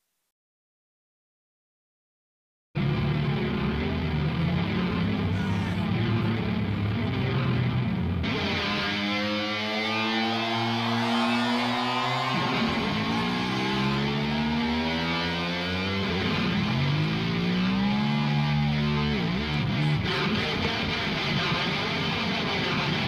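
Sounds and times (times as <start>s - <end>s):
distorted electric guitar solo: 2.8s - 23.0s.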